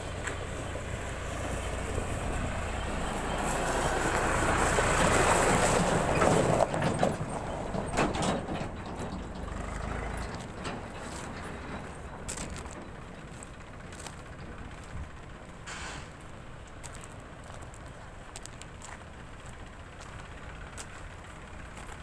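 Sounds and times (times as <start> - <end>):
tractor engine passing by: 0.0 - 22.0.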